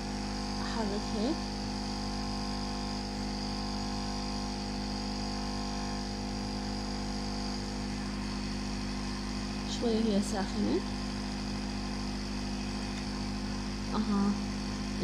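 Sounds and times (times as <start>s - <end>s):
electric fan motor humming: 0.0s - 15.0s.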